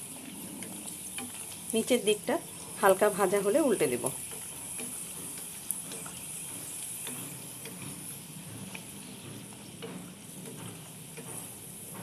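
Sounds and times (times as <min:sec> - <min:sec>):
dough frying in oil: 0:00.0 - 0:12.0.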